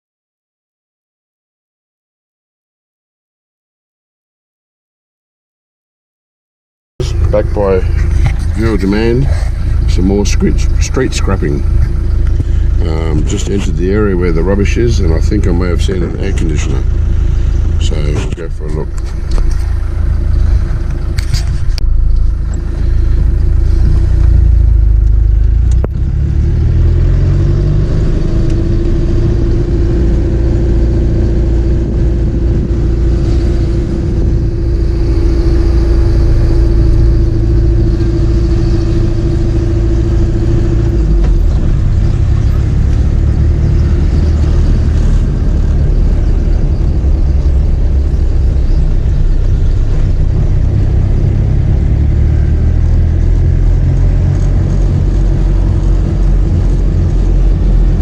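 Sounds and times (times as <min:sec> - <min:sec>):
car engine: 0:07.0 - 0:58.0
road noise: 0:07.0 - 0:58.0.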